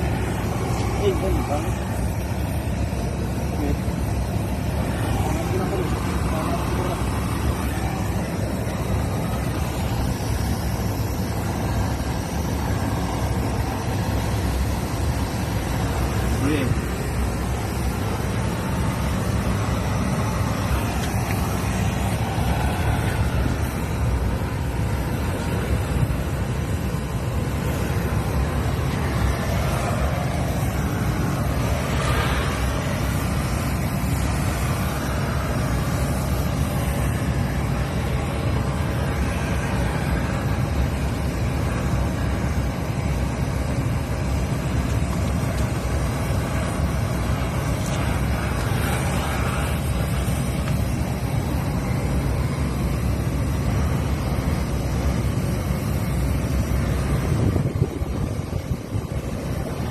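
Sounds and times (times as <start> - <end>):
machinery low rumbling: 0.0 - 59.9.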